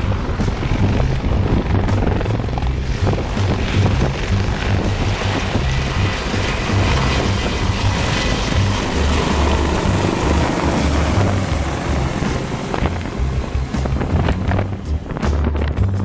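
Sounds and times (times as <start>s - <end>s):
thin turbine whine: 0.0s - 15.3s
helicopter rotor throb: 0.0s - 16.0s
rotor and engine rush: 0.0s - 16.0s.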